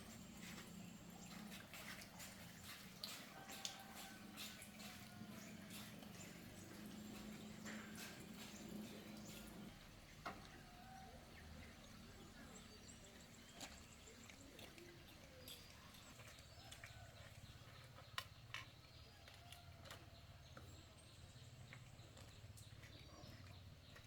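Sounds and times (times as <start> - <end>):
faint outdoor background: 0.0 - 24.0.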